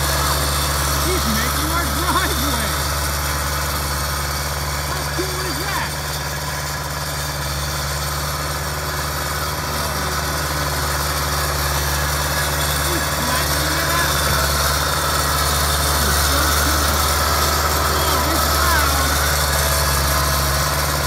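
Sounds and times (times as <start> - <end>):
skid steer loader engine running: 0.0 - 21.0.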